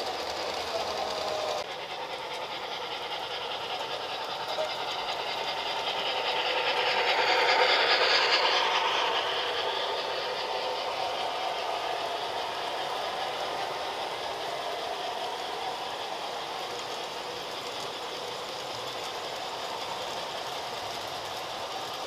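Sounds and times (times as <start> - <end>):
model train wheels clattering: 0.0 - 22.0.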